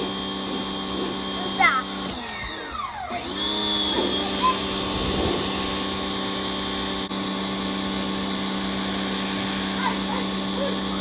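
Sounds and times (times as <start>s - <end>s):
pressure washer motor humming: 0.0s - 11.0s.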